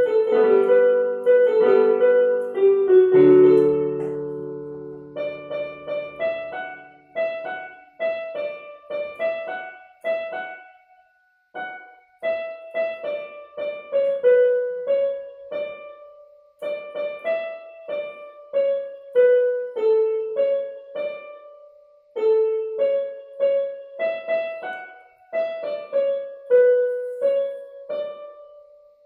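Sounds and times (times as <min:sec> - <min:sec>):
simple piano melody: 0:00.0 - 0:29.0.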